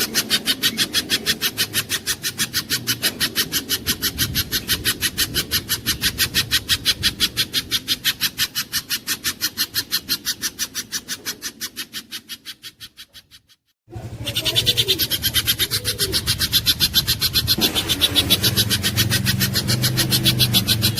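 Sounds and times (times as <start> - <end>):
bird call of sharp high chips: 0.0 - 13.6, 14.2 - 20.9.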